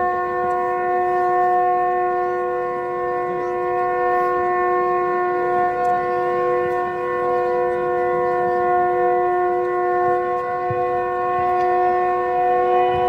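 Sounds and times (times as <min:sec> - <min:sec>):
faint crowd murmur: 0:00.0 - 0:13.0
sustained horn chord: 0:00.0 - 0:13.0.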